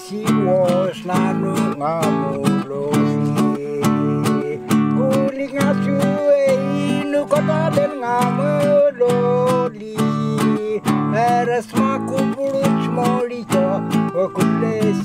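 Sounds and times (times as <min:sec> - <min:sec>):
acoustic guitar strumming: 0:00.0 - 0:15.0
person singing: 0:00.0 - 0:15.0.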